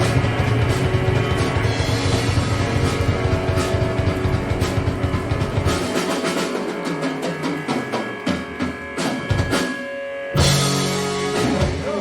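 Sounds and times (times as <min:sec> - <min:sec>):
drum hits: 0:00.0 - 0:09.8
live rock band: 0:00.0 - 0:12.0.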